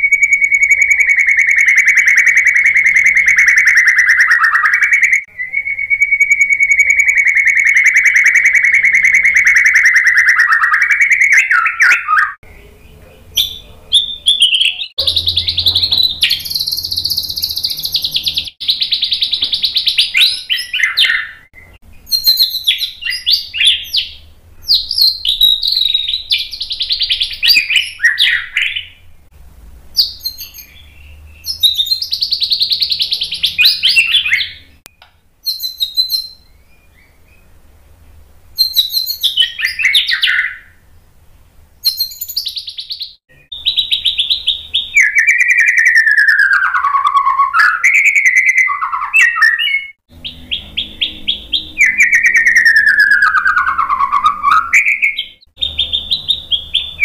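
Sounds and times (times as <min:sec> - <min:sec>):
bird singing whistled phrases: 0:00.0 - 0:29.0, 0:30.0 - 0:37.5, 0:38.6 - 0:40.8, 0:41.8 - 0:57.0.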